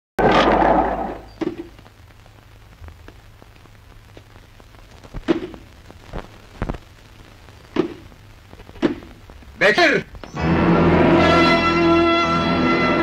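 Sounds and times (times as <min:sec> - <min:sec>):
film soundtrack hiss: 0:00.2 - 0:13.0.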